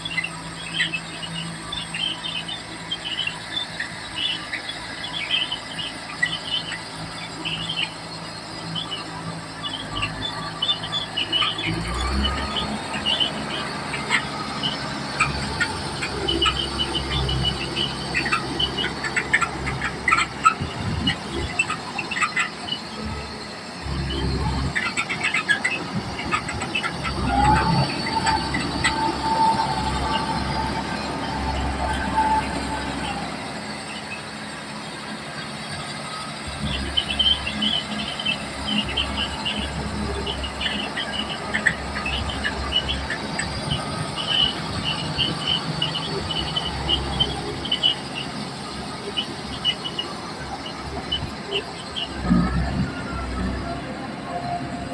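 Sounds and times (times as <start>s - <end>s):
bulldozer diesel engine rumbling: 0.0s - 54.9s
high metallic squealing: 0.0s - 54.9s.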